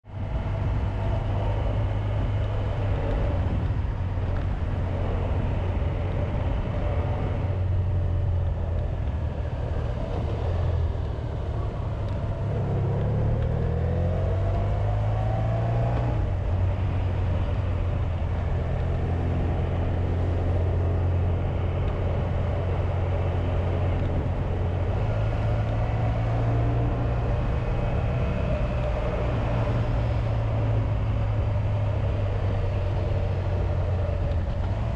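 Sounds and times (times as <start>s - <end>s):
motorcycle engine drone: 0.0s - 34.9s
wind and road noise: 0.0s - 34.9s.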